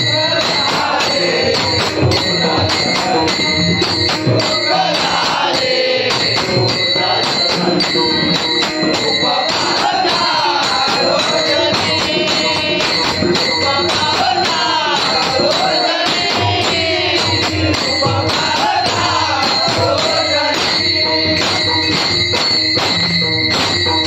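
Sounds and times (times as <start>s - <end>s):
men singing in chorus: 0.0s - 22.2s
brass hand cymbals clashing: 0.0s - 24.0s.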